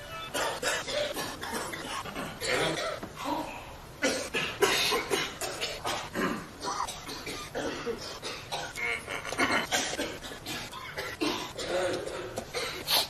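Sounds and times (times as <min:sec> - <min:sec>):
person coughing rapidly: 0:00.3 - 0:13.0.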